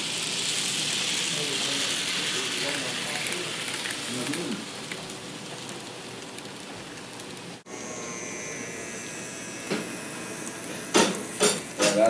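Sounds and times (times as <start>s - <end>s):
model train whirring: 0.0s - 12.0s.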